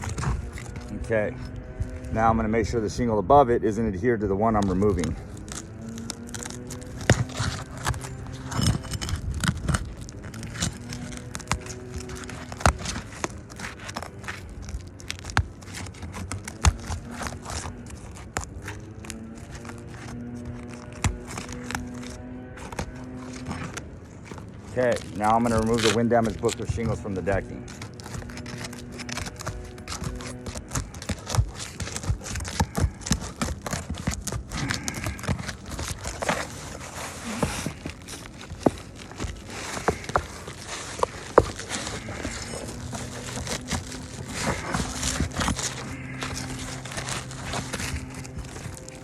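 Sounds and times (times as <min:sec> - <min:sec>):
shingles crackling and scraping: 0:00.0 - 0:49.0
shingles snapping apart: 0:04.5 - 0:49.0.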